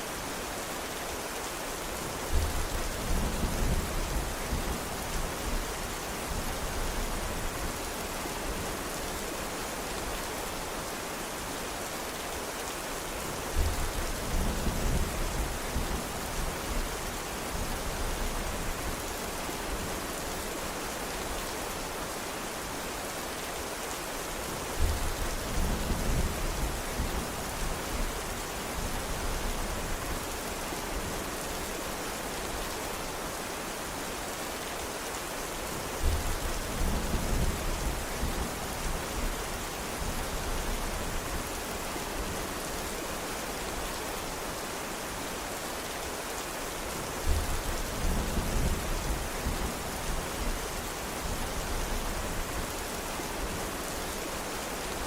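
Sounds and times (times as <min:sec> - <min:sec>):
dense rain hiss: 0:00.0 - 0:55.0.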